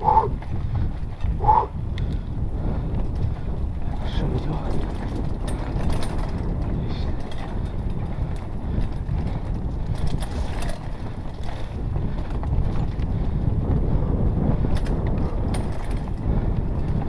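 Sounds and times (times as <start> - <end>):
bike clicks and rattles: 0.0 - 17.0
wind on microphone: 0.0 - 17.0
bike rolling over rocky trail: 0.3 - 17.0.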